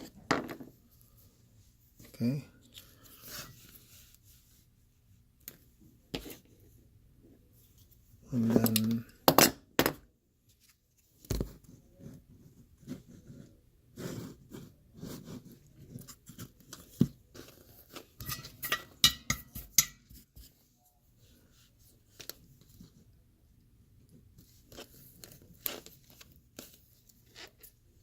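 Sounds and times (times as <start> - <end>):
rustling and scraping: 0.0 - 6.8, 10.4 - 23.2, 24.0 - 28.0.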